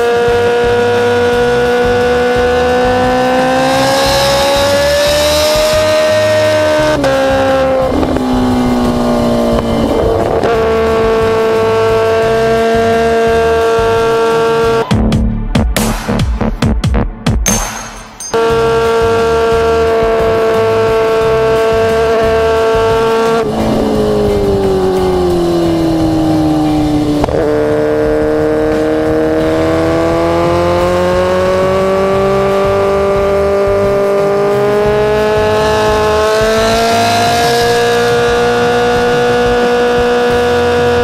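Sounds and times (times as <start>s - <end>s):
motorcycle engine running hard: 0.0s - 14.9s, 18.2s - 41.0s.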